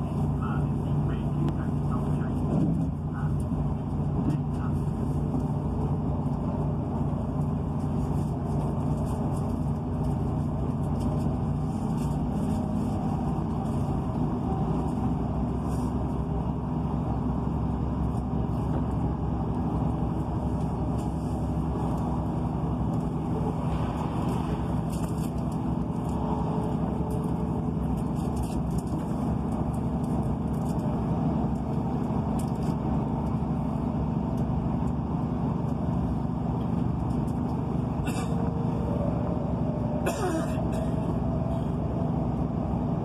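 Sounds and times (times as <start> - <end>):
diesel engine drone: 0.0 - 43.0
train wheels rumbling on rails: 0.0 - 43.0.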